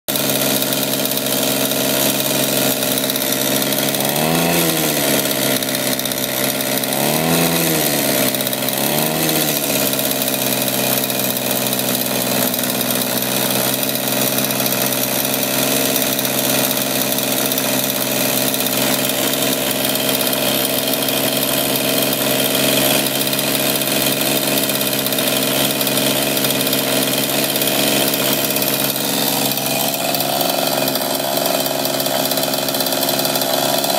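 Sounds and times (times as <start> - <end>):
two-stroke engine revving and idling: 0.0 - 33.9.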